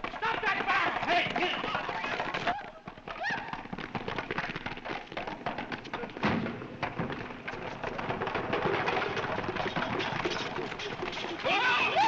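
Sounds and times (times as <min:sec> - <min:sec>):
wooden barrels rolling on pavement: 0:00.0 - 0:12.0.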